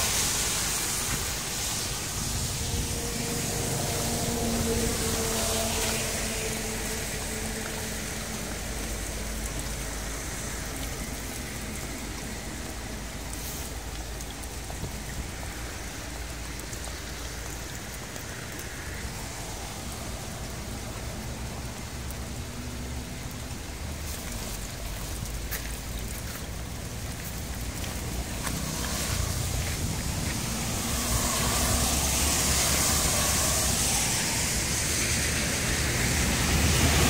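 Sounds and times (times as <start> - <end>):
rain falling on wet gravel: 0.0 - 37.0
shallow stream of runoff water: 0.0 - 37.0.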